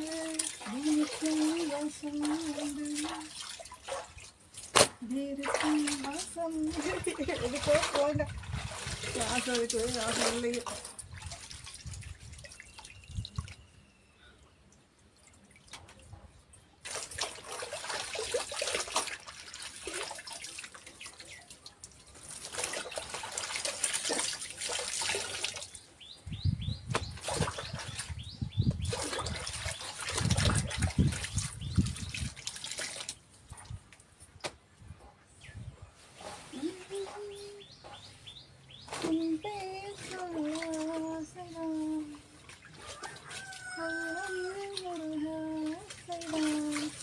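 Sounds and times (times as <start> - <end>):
wet cloth sloshing in water: 0.0 - 13.8, 15.2 - 26.0, 26.8 - 34.7, 38.8 - 47.0
water splashing and dripping: 0.0 - 13.9, 14.6 - 26.1, 26.8 - 34.8, 38.8 - 47.0.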